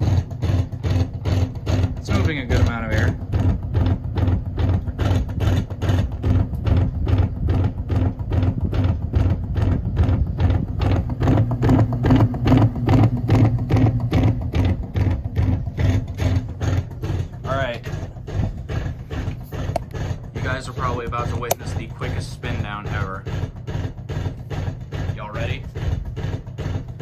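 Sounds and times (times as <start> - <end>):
fan knocking: 0.0 - 27.0.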